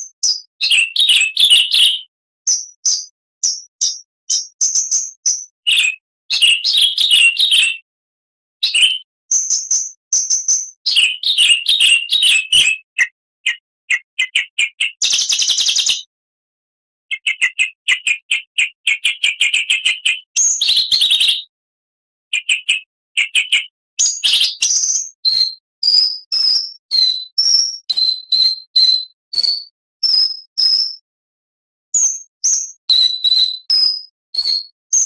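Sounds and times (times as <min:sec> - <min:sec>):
bird singing whistles and trills: 0:00.0 - 0:07.9, 0:08.6 - 0:16.1, 0:17.1 - 0:21.5, 0:22.4 - 0:31.1, 0:32.0 - 0:35.0.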